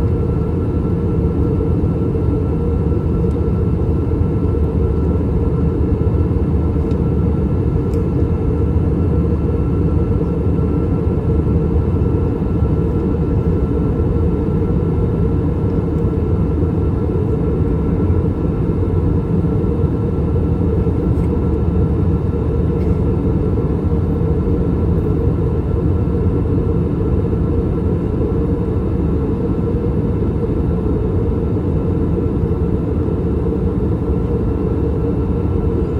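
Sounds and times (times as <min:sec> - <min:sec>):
airliner cabin rumble: 0:00.0 - 0:35.9.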